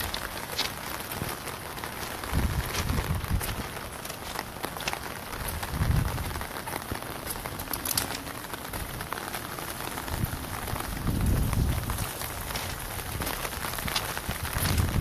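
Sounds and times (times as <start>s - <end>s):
heavy rain on an umbrella: 0.0s - 15.0s
low rumbles: 0.0s - 15.0s
raindrops ticking: 0.0s - 15.0s.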